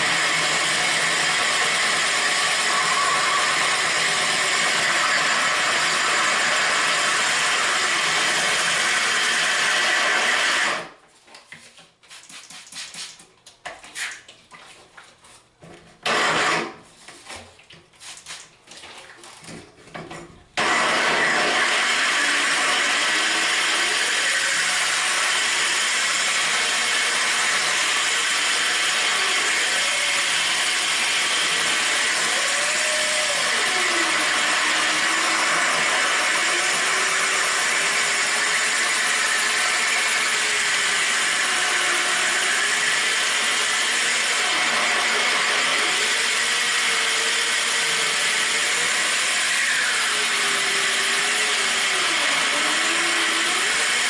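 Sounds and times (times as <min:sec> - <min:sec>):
electric drill grinding tile: 0:00.0 - 0:11.0, 0:16.0 - 0:16.8, 0:20.6 - 0:54.0.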